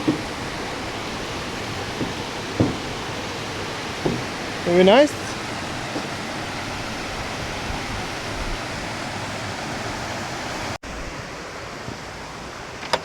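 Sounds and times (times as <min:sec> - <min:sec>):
river water pouring over a weir: 0:00.0 - 0:13.0.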